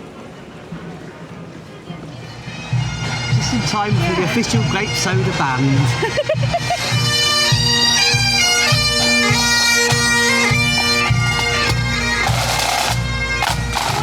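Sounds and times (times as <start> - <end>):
bagpipe drone: 2.3 - 14.0
bagpipes playing a tune: 2.3 - 14.0
regular drumbeat: 2.7 - 14.0.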